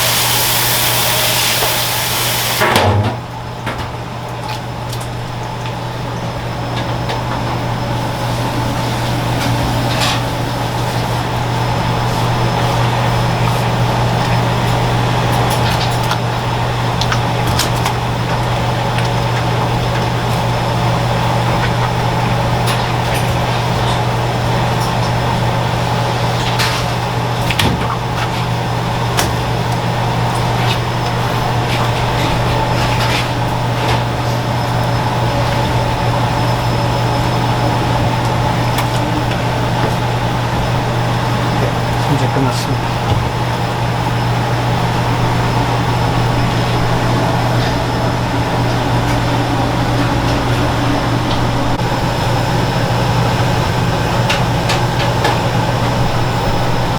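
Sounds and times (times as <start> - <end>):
machine humming: 0.0 - 56.9.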